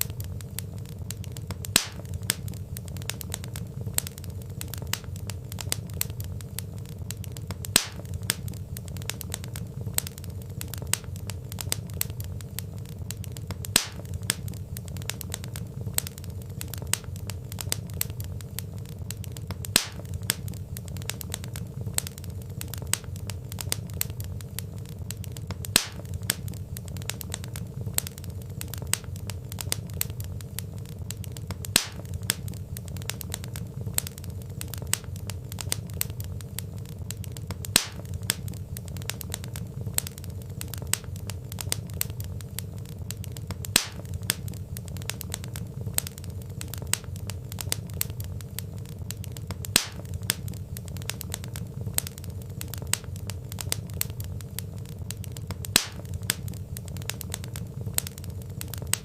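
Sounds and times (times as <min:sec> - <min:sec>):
logs popping: 0:00.0 - 0:59.0
wood fire crackling: 0:00.0 - 0:59.0.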